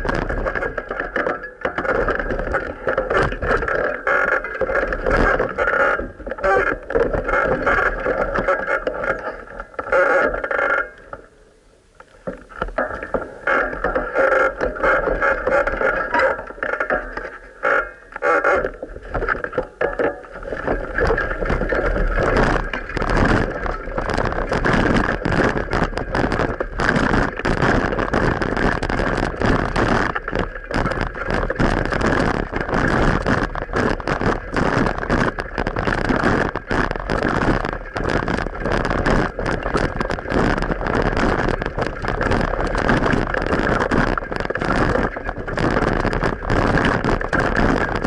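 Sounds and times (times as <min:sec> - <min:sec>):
bicycle riding rumble: 0:00.0 - 0:11.3, 0:12.2 - 0:48.0.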